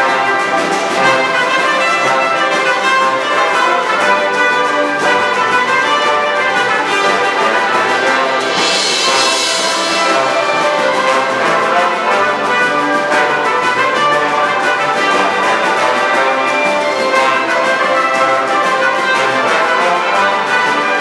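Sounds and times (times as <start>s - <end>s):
brass section: 0.0s - 21.0s
percussion keeping a steady beat: 0.0s - 21.0s
strings: 0.0s - 21.0s.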